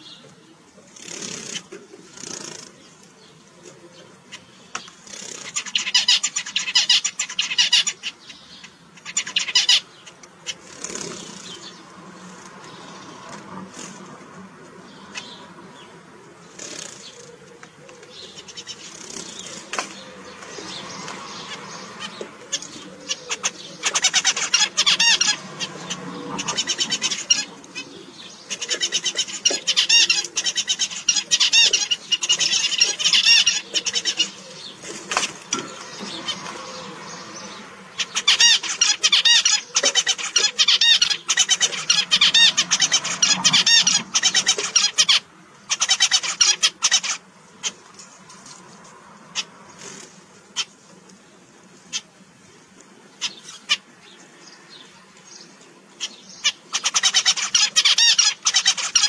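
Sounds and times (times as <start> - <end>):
finches singing and calling: 1.0 - 14.0, 14.8 - 47.9, 53.1 - 59.0.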